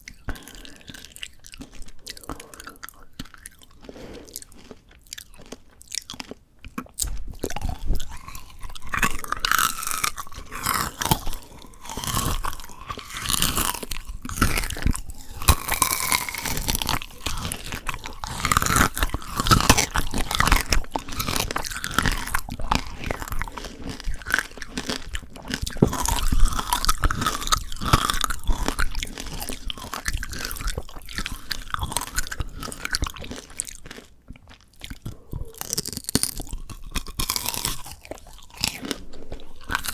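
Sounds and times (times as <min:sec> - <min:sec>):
crunching and chewing candy: 0:00.0 - 0:39.9.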